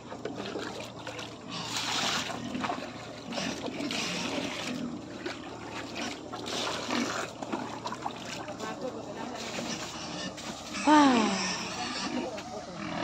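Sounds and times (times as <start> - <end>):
water splashing and sloshing: 0.0 - 12.8.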